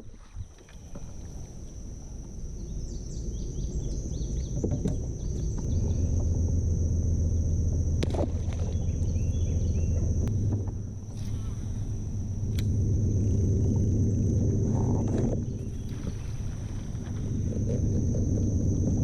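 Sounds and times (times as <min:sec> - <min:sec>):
low steady rumble: 0:00.0 - 0:19.0
high-pitched drone: 0:01.2 - 0:18.2.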